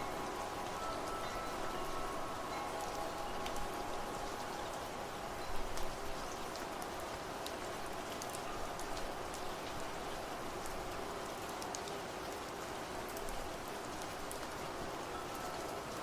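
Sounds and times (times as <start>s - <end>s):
rain drops ticking on a surface: 0.0s - 16.0s.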